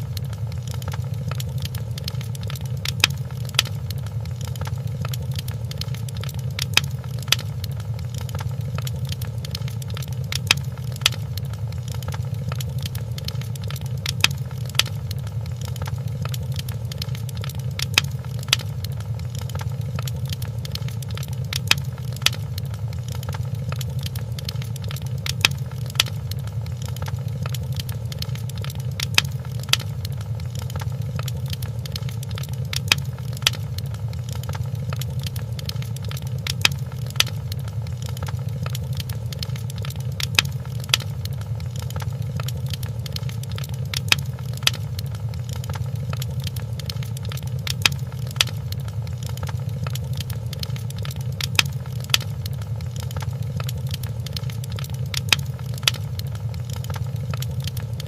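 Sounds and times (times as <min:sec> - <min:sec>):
fireplace crackling: 0:00.0 - 0:58.0
low rumble of fire: 0:00.0 - 0:58.0.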